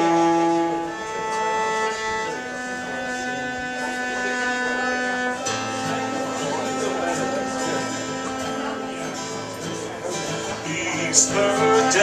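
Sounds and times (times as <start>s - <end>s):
bowed upright bass notes: 0.0s - 12.0s.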